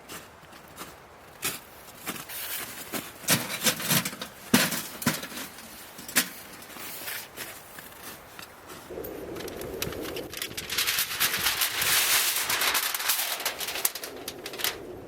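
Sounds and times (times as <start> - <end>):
hands handling objects: 1.5 - 14.8.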